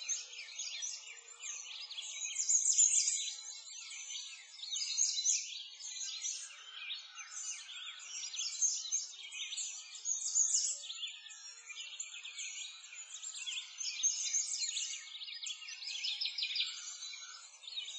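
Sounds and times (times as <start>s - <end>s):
birds chirping and singing: 0.0s - 17.9s.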